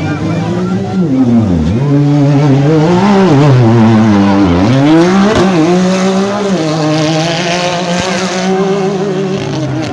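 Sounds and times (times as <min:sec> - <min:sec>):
off-road engine revving hard: 0:00.0 - 0:09.9.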